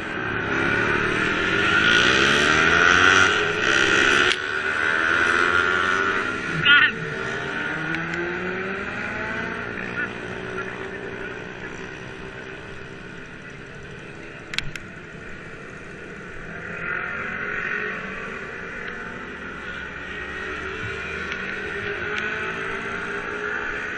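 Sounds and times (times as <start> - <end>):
wind and road noise: 0.0 - 23.9.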